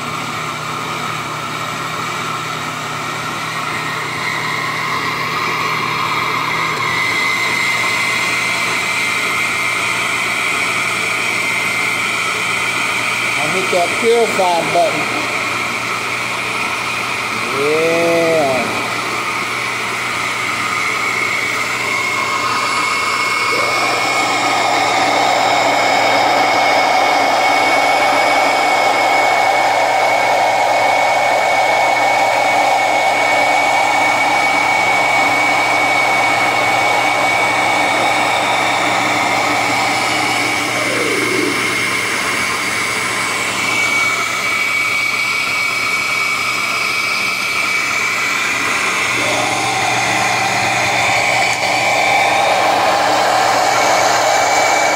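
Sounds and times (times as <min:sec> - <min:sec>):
blender running: 0:00.0 - 0:54.9.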